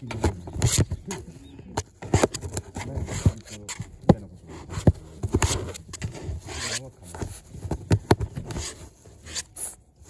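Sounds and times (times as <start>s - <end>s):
puppy scratching cardboard box: 0.0s - 10.0s.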